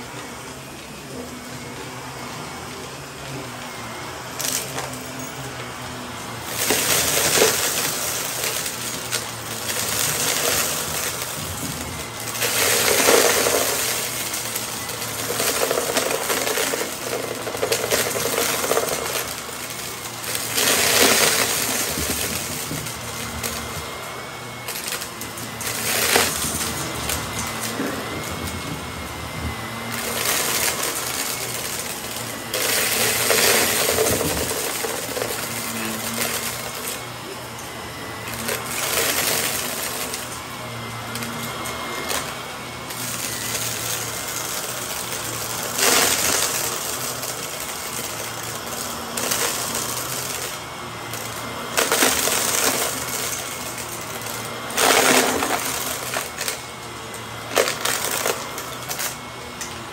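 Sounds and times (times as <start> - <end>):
vacuum motor whine: 0.0 - 59.9
debris crunching and rattling: 6.3 - 37.6, 38.2 - 59.8.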